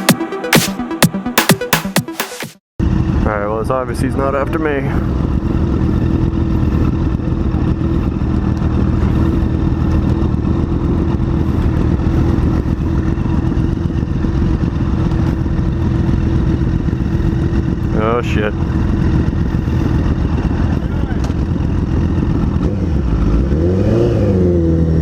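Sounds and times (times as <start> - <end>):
motorcycle engine running: 2.8 - 25.0.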